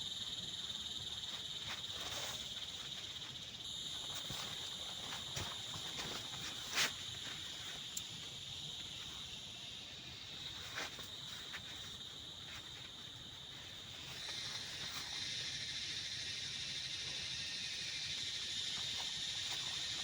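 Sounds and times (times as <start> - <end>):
insect chorus trilling: 0.0 - 20.0.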